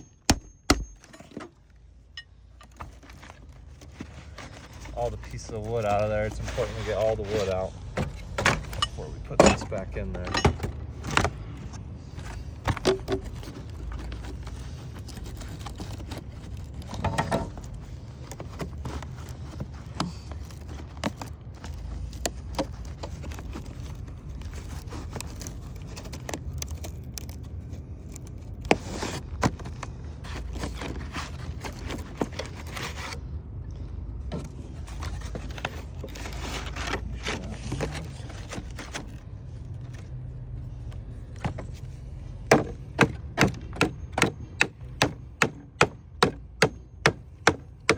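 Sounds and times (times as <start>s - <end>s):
low steady rumble: 0.0s - 47.9s.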